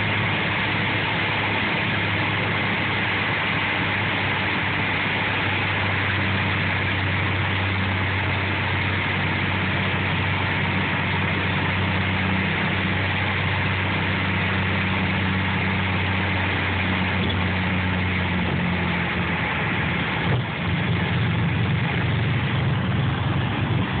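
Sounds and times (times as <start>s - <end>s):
light plane engine and propeller: 0.0s - 24.0s.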